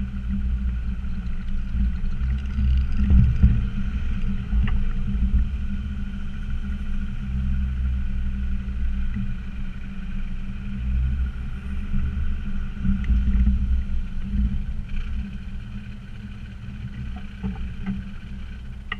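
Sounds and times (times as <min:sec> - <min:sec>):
diesel engine running at low revs: 0:00.0 - 0:18.9.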